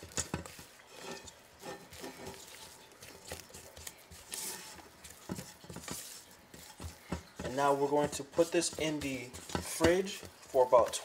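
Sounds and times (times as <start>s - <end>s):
utensil scraping in a bowl: 0.0s - 11.0s.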